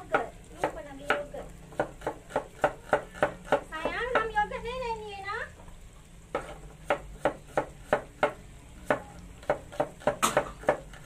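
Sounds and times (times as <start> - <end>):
shallots frying in butter: 0.0 - 11.0.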